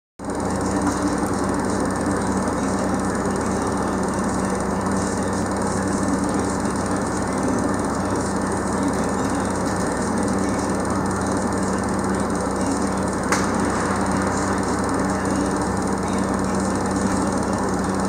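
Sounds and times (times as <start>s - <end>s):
diesel engine running: 0.2s - 18.0s.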